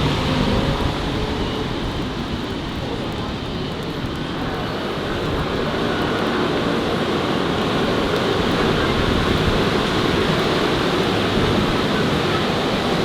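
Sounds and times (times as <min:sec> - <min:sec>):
city traffic passing: 0:00.0 - 0:13.0.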